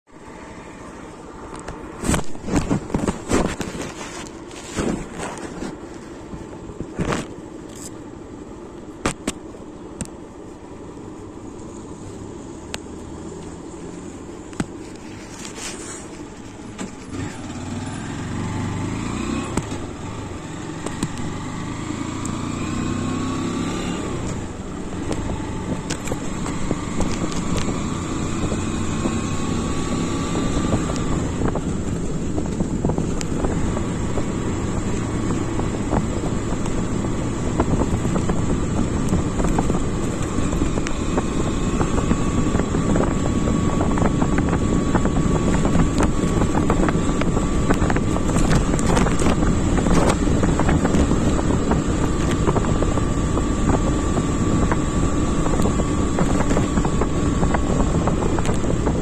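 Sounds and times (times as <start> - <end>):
motorcycle engine accelerating: 11.6 - 59.0.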